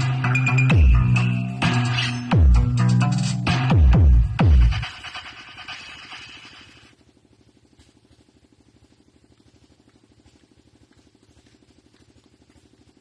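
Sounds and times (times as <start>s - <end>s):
faint small engine idling: 2.3s - 13.0s.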